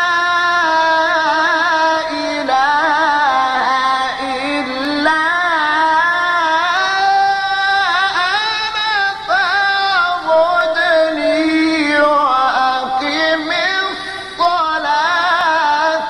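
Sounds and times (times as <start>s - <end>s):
man chanting melismatic recitation: 0.0s - 16.0s.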